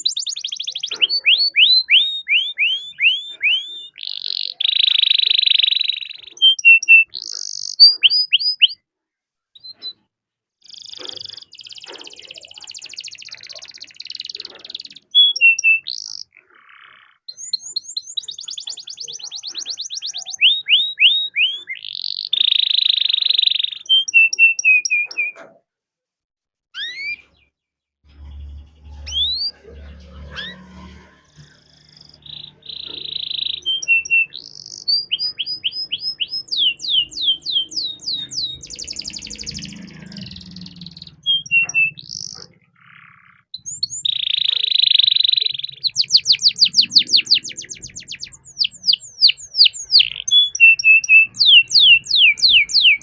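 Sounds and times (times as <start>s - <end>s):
canary singing trills: 0.0s - 8.8s, 9.6s - 25.6s, 26.8s - 27.5s, 28.1s - 53.0s.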